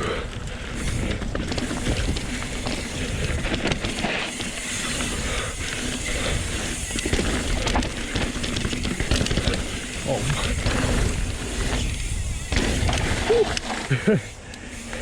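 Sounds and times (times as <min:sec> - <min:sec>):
bike clicks and knocks: 0:00.3 - 0:15.0
tyres rumbling on dirt: 0:00.5 - 0:14.4.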